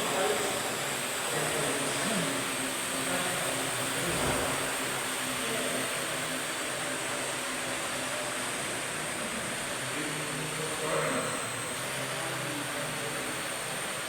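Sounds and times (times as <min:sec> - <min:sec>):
quadcopter drone buzzing hum: 0:00.0 - 0:14.0.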